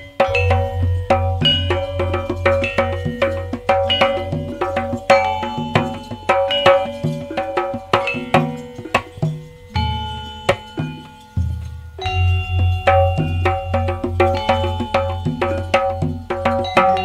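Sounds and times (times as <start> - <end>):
low drum beat: 0.0 - 17.0
tuned metal percussion ringing: 0.0 - 17.0.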